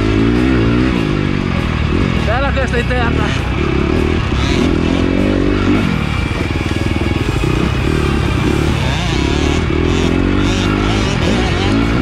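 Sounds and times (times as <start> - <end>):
motocross bike engine: 0.0 - 12.0
music playing: 0.0 - 12.0.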